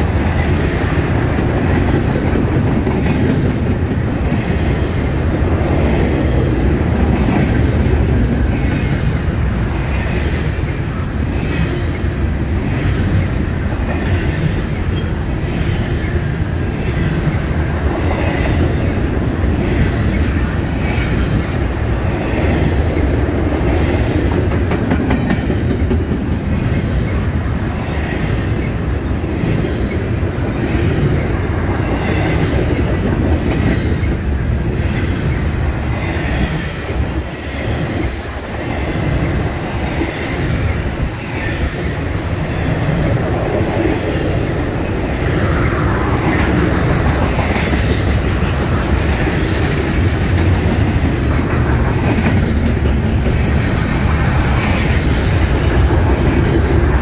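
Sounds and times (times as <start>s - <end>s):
steel wheels rumbling on rail: 0.0s - 57.0s
wheels clicking over rail joints: 0.0s - 57.0s.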